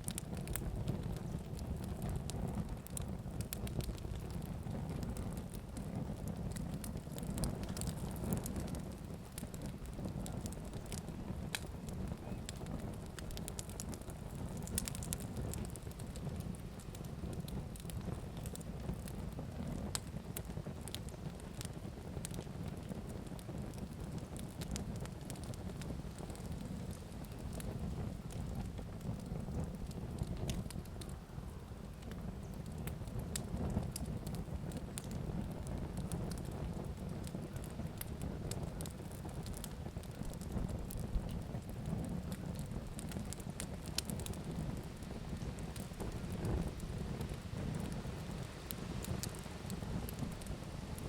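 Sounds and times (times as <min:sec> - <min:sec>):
fire crackling and popping: 0:00.0 - 0:51.0.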